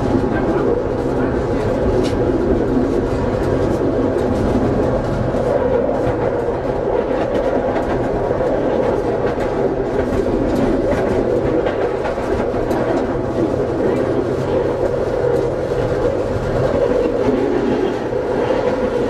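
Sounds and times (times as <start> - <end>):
faint rail clicks: 0.0 - 19.0
tram wheels rumbling on rails: 0.0 - 19.0.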